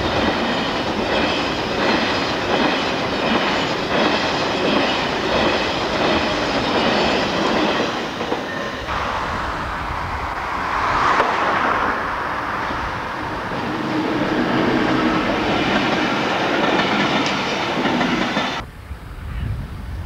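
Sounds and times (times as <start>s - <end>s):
electric train running past: 0.0s - 20.0s.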